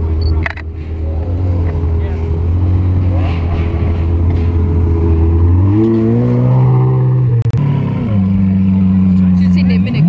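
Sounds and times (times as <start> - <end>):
car engine passing by: 0.8 - 10.0.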